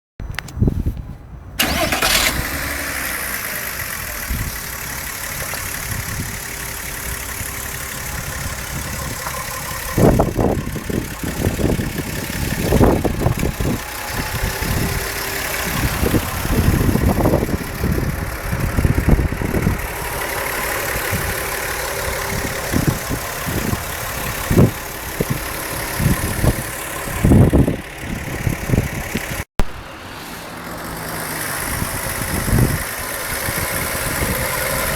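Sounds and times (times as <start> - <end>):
car engine starting and idling: 1.5 - 34.9
engine rattle: 1.6 - 34.9
engine revving: 1.6 - 34.9.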